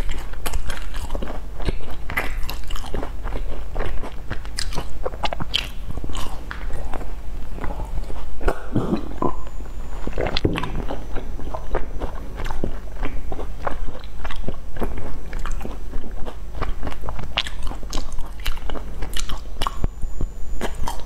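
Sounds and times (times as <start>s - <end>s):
crunchy pastry chewing: 0.0s - 21.0s.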